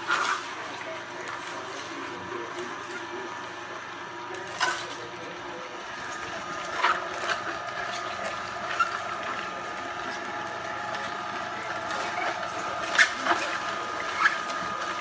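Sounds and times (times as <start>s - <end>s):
juicer motor whining: 0.0s - 15.0s.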